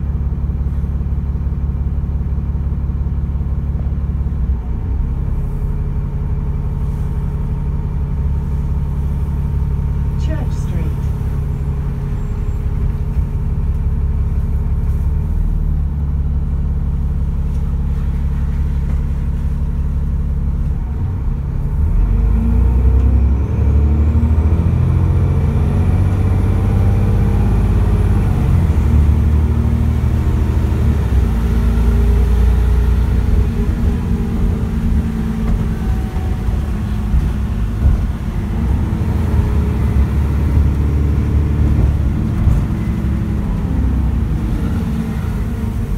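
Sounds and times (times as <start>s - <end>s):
bus diesel engine: 0.0s - 45.9s.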